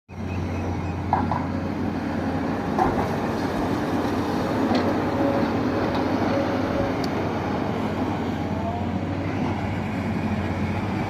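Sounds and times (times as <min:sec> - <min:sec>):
excavator engine running: 0:00.1 - 0:11.0.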